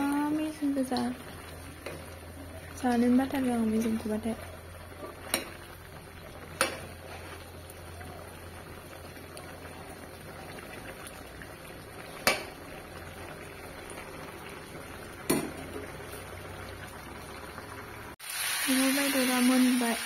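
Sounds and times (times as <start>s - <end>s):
curry bubbling in a wok: 0.0s - 20.0s.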